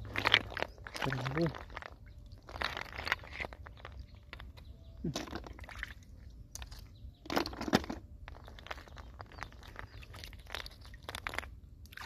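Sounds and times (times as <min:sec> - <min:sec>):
snail shells clicking: 0:00.0 - 0:05.6, 0:06.5 - 0:11.6
water splashing and sloshing: 0:00.0 - 0:12.0.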